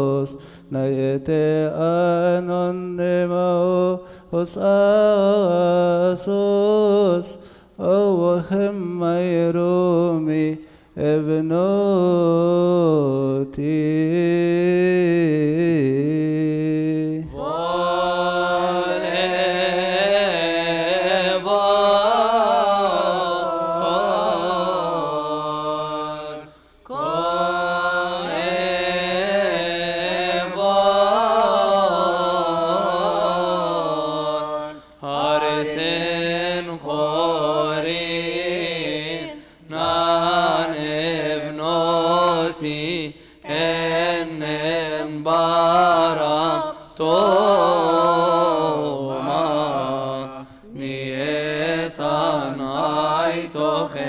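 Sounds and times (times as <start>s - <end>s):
men chanting: 10.4s - 54.0s.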